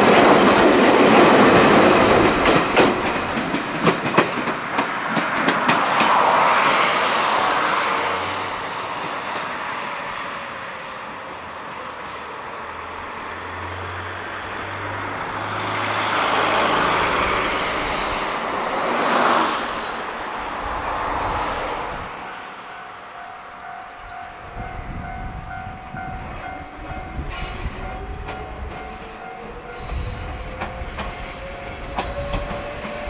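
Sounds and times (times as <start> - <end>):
electric train rolling away: 0.0 - 33.0
vehicle noise: 0.0 - 33.0.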